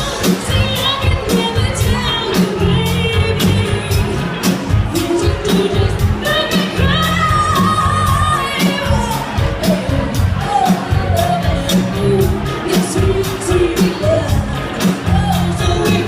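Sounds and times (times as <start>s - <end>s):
pop music with singing: 0.0s - 16.0s
steady drum beat: 0.0s - 16.0s.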